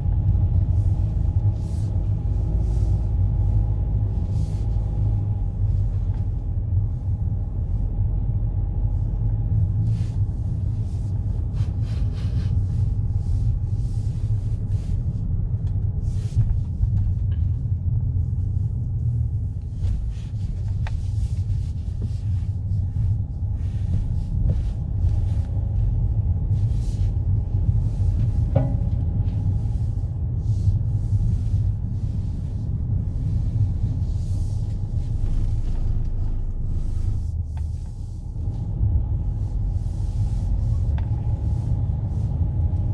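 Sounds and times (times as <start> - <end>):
car tyres and engine rumble: 0.0 - 42.9.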